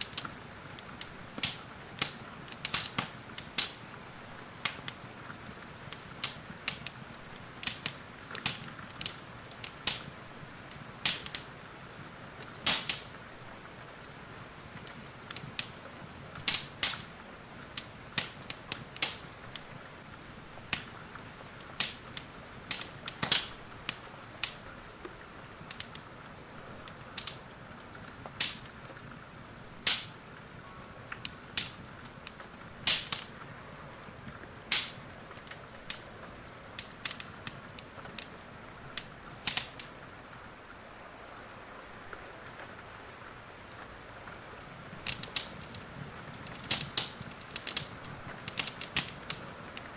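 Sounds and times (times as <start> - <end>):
rain hiss: 0.0 - 49.9
wood fire crackling: 0.0 - 49.9.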